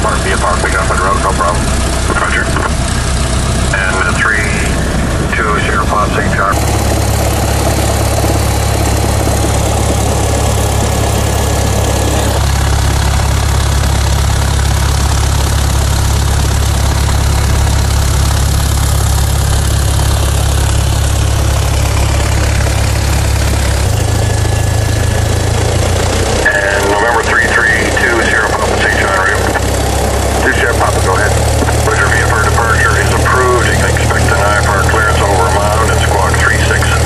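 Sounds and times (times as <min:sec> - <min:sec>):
propeller plane engine running: 0:00.0 - 0:37.0.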